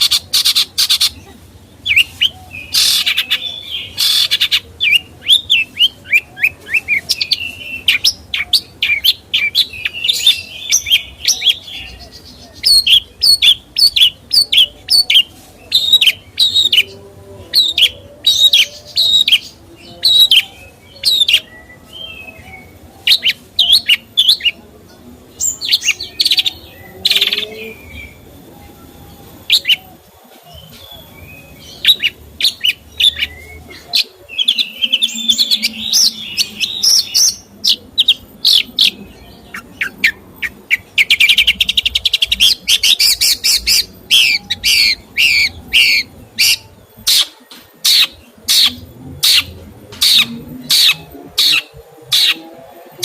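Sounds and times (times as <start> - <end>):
songbird chattering chirps: 0.0 - 52.6.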